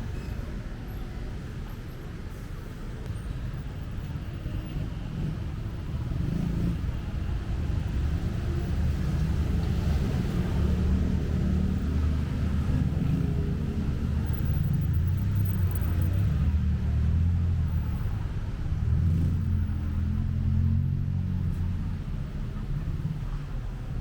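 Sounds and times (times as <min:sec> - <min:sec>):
traffic rumble: 0:00.0 - 0:24.0
vehicles passing: 0:00.0 - 0:24.0.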